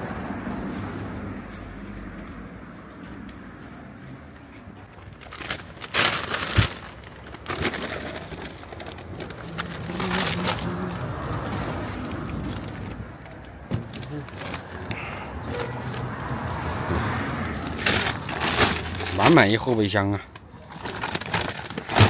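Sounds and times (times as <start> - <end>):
rustling and handling noise: 0.0 - 22.0.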